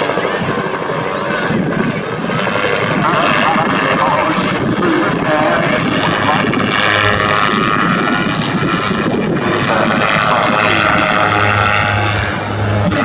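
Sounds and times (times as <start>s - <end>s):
propeller aircraft engine: 0.0s - 13.0s.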